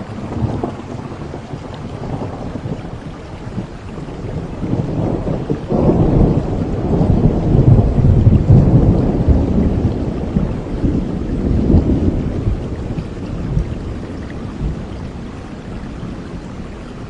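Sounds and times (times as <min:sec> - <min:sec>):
thunder rolling: 0:00.0 - 0:15.2
steady rain: 0:00.0 - 0:17.0.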